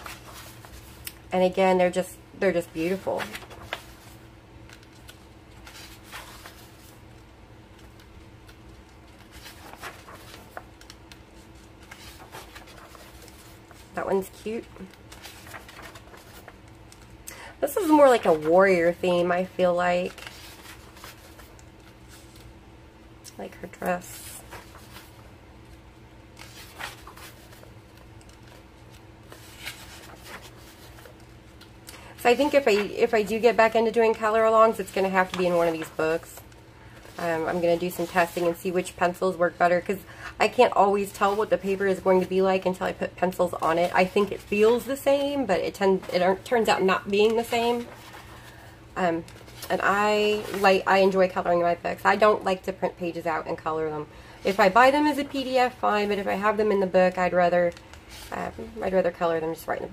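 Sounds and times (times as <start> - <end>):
paper pages rustling: 0.0 - 1.9, 2.5 - 22.5, 23.8 - 39.7, 40.5 - 51.5, 54.4 - 59.2
low steady hum: 0.0 - 59.9.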